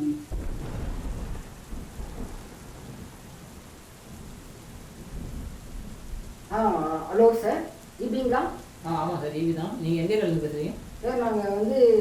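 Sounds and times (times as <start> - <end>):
rain hissing: 0.0 - 12.0
thunder rumbling: 0.0 - 12.0.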